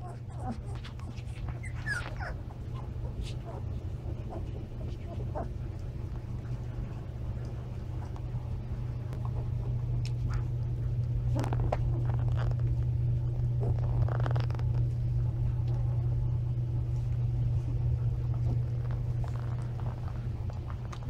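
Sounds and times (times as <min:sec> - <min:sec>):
steady low hum: 0:00.0 - 0:21.0
puppies rustling on blankets: 0:00.1 - 0:08.6, 0:10.1 - 0:15.9, 0:16.8 - 0:21.0.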